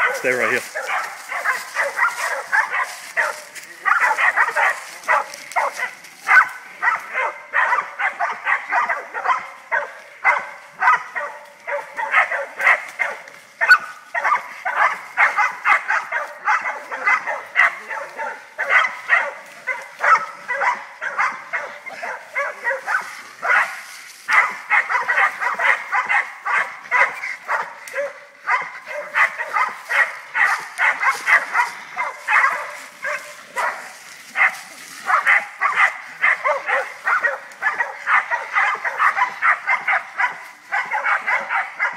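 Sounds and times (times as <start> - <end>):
dogs barking rapidly: 0.0 - 41.9.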